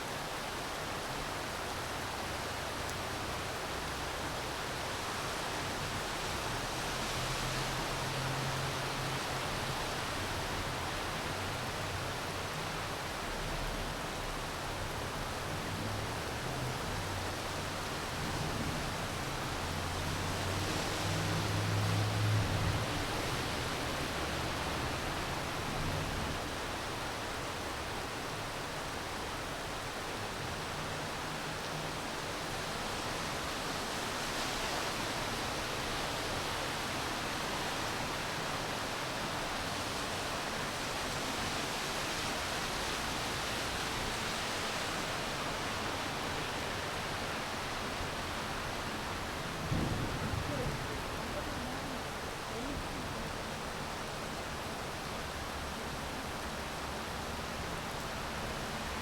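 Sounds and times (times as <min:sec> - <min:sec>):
rain falling: 0:00.1 - 0:59.0.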